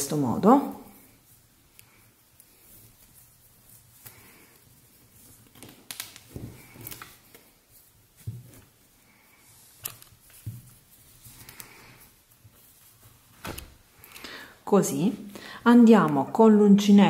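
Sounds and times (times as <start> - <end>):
soft rustles of cotton cord: 0.0 - 17.0.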